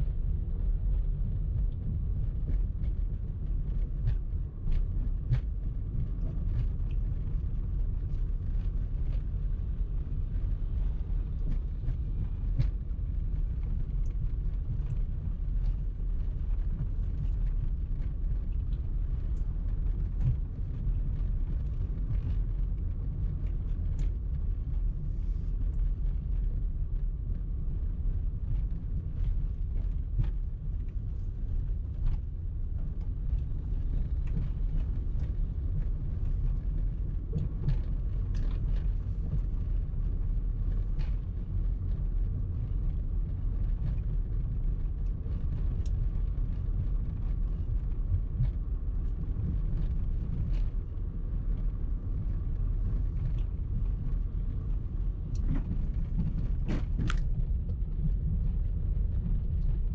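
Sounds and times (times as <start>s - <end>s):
car engine and road noise: 0.0s - 59.9s
faint clicks and ticks: 0.3s - 59.9s.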